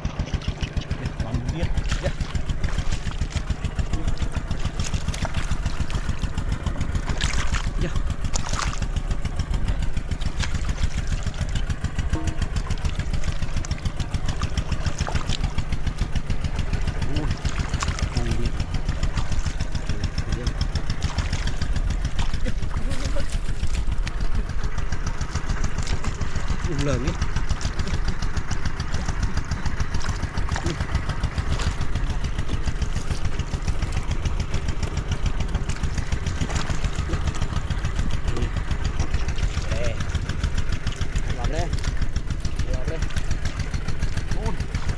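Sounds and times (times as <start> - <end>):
small engine puttering: 0.0 - 44.9.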